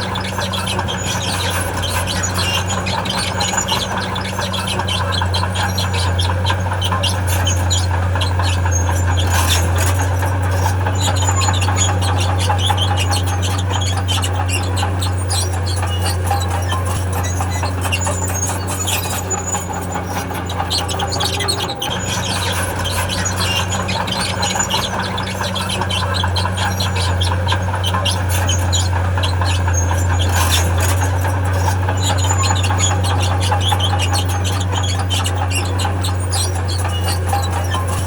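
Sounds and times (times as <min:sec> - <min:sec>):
diesel engine droning: 0:00.0 - 0:38.0
steel tracks squealing and clanking: 0:00.0 - 0:38.0.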